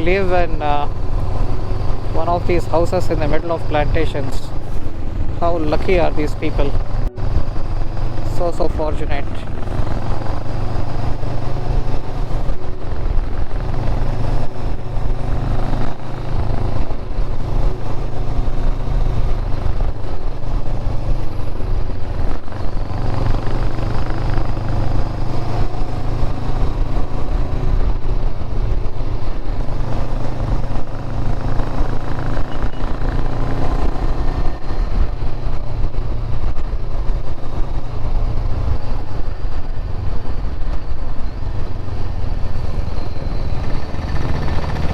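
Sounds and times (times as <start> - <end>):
motorcycle engine rumbling: 0.0 - 44.9.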